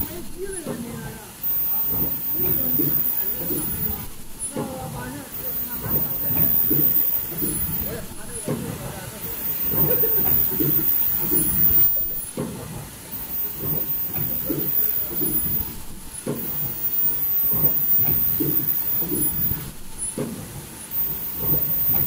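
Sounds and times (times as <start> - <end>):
machinery knocking: 0.0 - 22.0.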